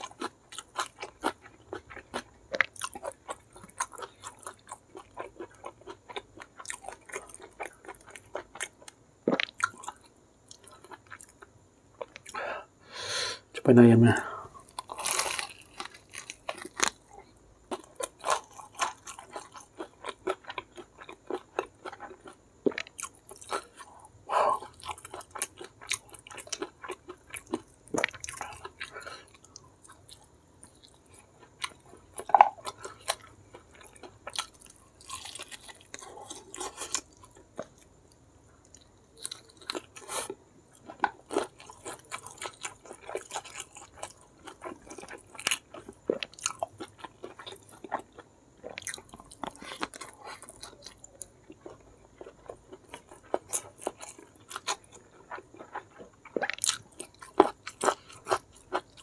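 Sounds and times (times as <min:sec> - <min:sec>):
person chewing close to microphone: 0:00.0 - 0:12.4, 0:14.6 - 0:37.9, 0:38.6 - 0:59.0.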